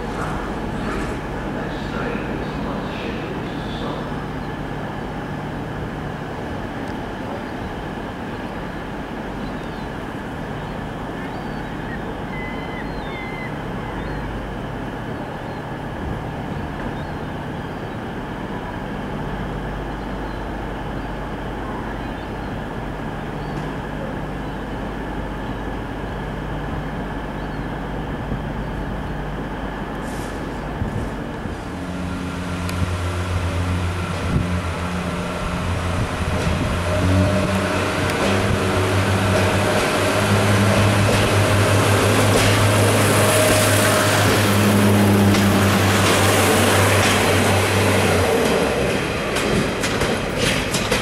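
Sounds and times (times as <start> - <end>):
diesel railbus engine drone: 0.0 - 51.0.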